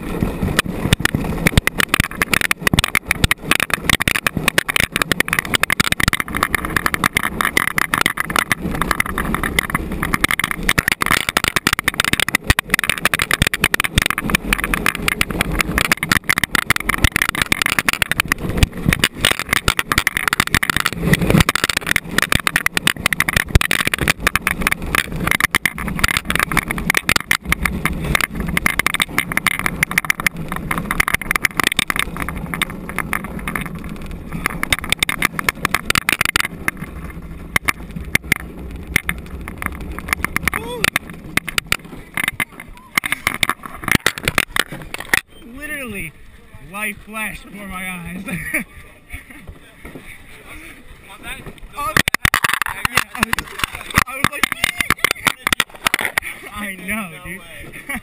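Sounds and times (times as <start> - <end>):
cart rattling and clattering: 0.0 - 58.0
wheels rumbling on pavement: 0.0 - 58.0.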